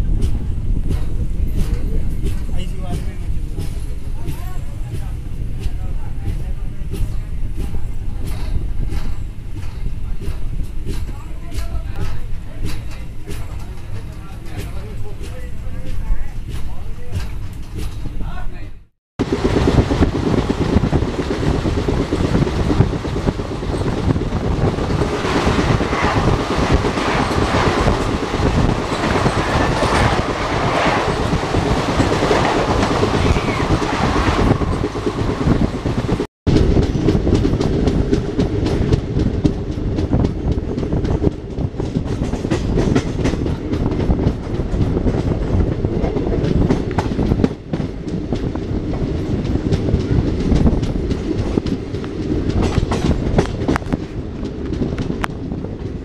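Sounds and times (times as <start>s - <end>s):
train running rumble: 0.0s - 56.0s
wheels clattering over rail joints: 0.1s - 18.4s, 19.2s - 56.0s.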